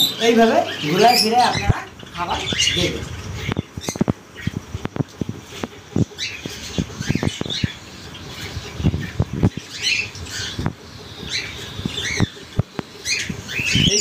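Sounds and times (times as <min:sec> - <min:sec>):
birds chirping and squawking: 0:00.0 - 0:14.0.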